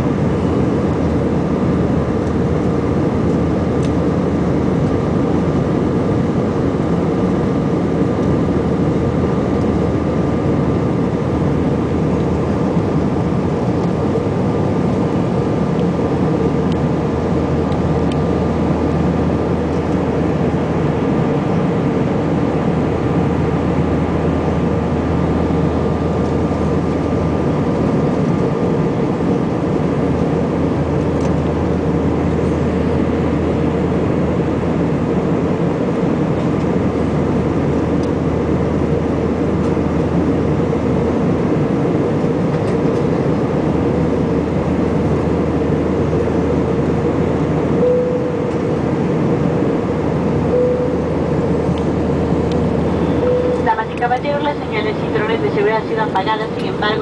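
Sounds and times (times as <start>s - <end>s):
faint steady whine: 0.0s - 57.0s
jet engines droning: 0.0s - 57.0s.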